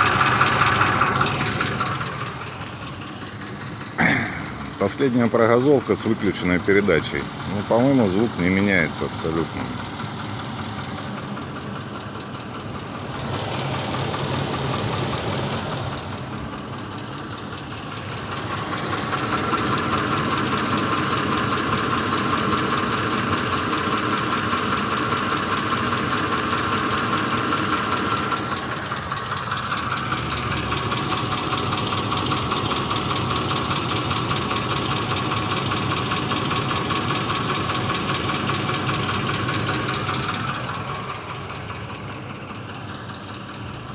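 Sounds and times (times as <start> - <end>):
knocking engine revving: 0.0 - 43.9.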